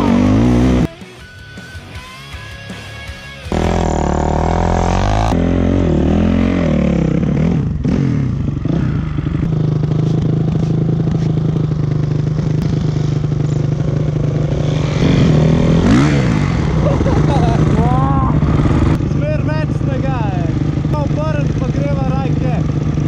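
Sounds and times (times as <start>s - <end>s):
dirt bike engine revving: 0.0s - 0.9s, 3.5s - 23.0s.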